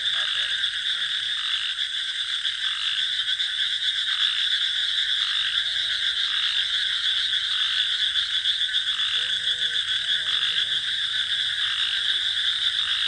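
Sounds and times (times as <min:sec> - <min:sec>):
frogs and crickets trilling: 0:00.0 - 0:13.0.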